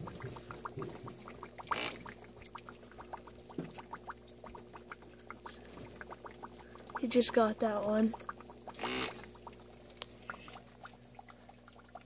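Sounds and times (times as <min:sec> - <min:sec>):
aquarium water trickling and bubbling: 0:00.0 - 0:12.0
steady low hum: 0:00.0 - 0:12.0.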